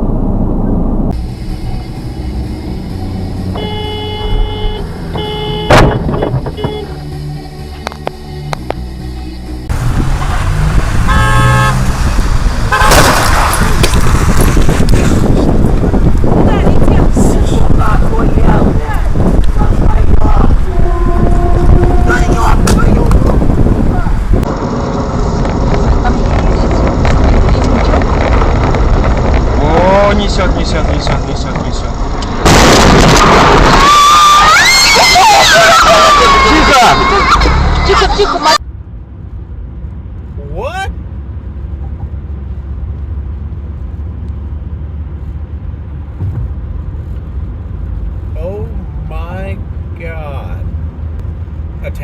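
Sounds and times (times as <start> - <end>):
vehicle driving rumble: 0.0 - 52.0.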